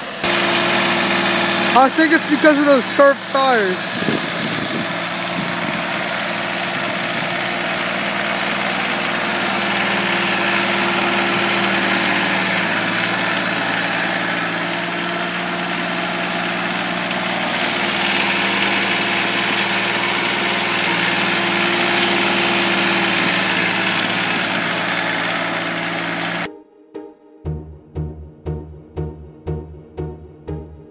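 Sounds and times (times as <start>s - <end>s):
tractor diesel engine running: 0.0s - 26.5s.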